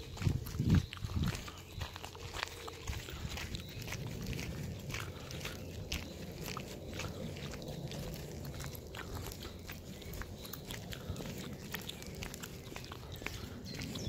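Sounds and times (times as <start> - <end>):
footsteps crunching on gravel: 0.0 - 14.0
low steady rumble: 0.0 - 14.0.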